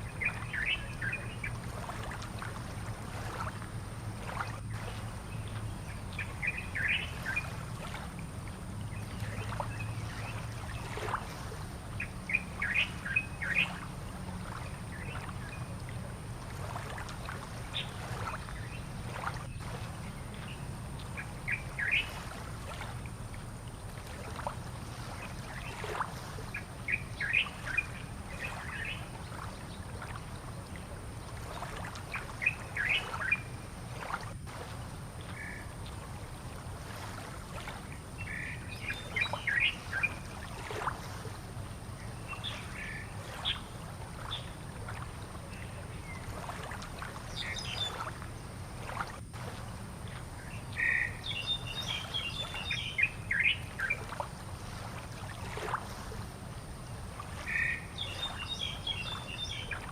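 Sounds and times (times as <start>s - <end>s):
steady low hum: 0.0s - 59.2s.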